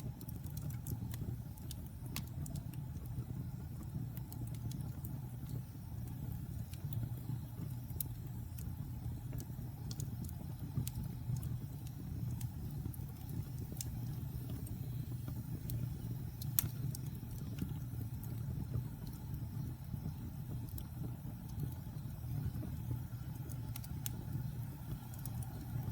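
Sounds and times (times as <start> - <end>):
fire crackling: 0.0 - 25.9
fire flames rumbling: 0.0 - 25.9
fire popping: 0.0 - 25.9.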